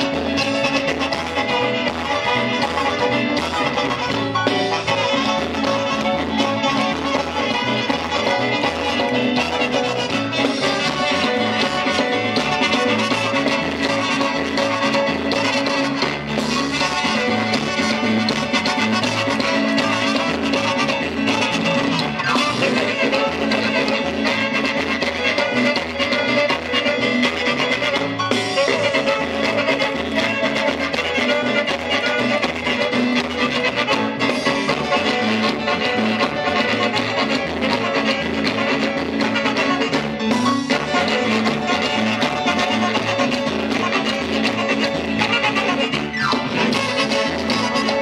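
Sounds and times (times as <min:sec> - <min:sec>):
upbeat latin dance music: 0:00.0 - 0:48.0.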